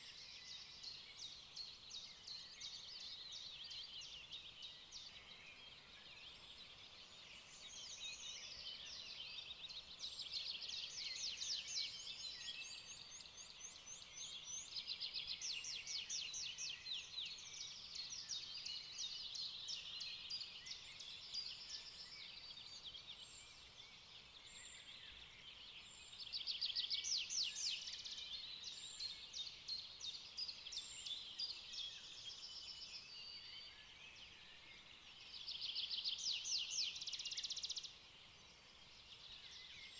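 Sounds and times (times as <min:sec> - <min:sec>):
small birds singing and chirping: 0:00.0 - 0:39.9.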